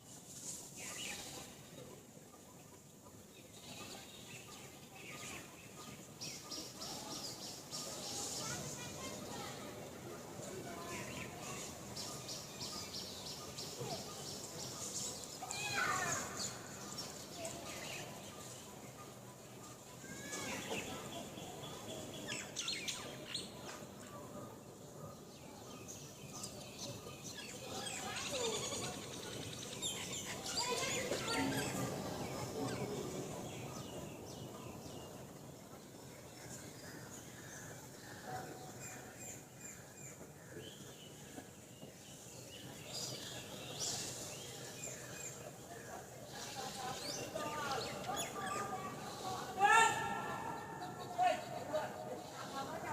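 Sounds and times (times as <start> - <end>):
low outdoor background noise: 0.0 - 52.9.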